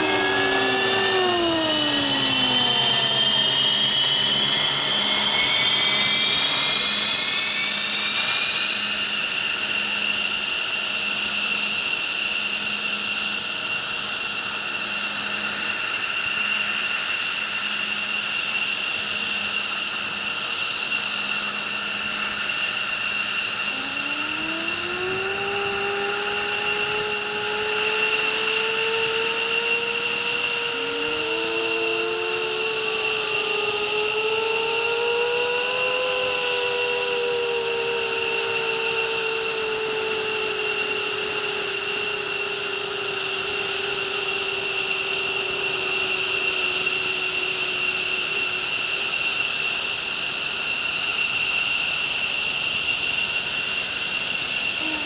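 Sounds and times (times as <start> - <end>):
jet engines spooling up: 0.0 - 55.0
steady high-pitched whine: 0.0 - 55.0.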